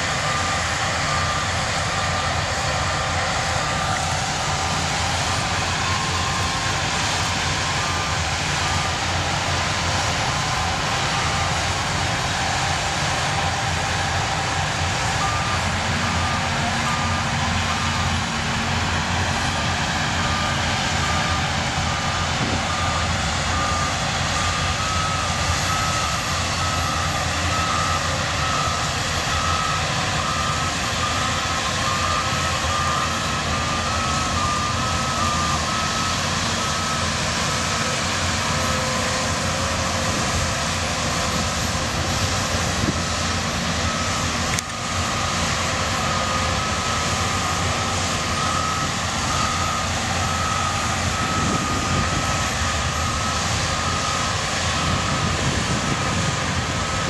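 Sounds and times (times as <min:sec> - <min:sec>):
bulldozer diesel engines running: 0:00.0 - 0:57.0
reversing alarm beeping: 0:00.0 - 0:57.0.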